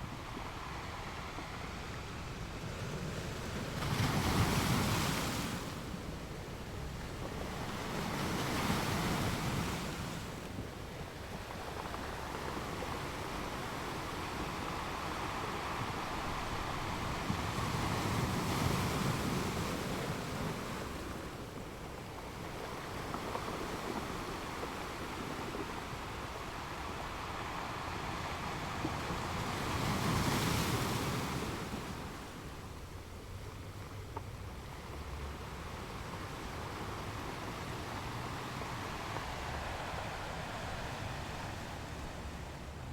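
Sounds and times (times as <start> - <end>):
ocean waves breaking on shore: 0.0 - 42.9.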